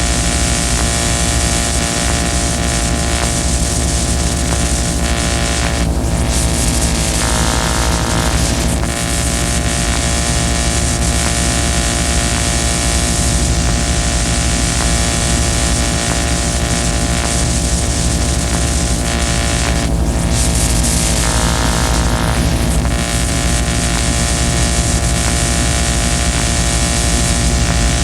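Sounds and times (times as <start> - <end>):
loud steady hiss: 0.0 - 28.0
pulsing low hum: 0.0 - 28.0
whirring drone: 0.0 - 28.0.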